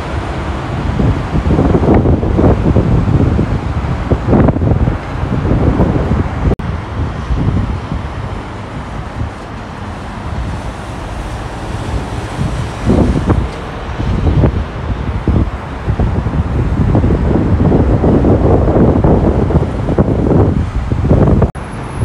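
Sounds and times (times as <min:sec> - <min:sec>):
freeway traffic roar: 0:00.0 - 0:22.0
wind buffeting microphone: 0:00.0 - 0:22.0.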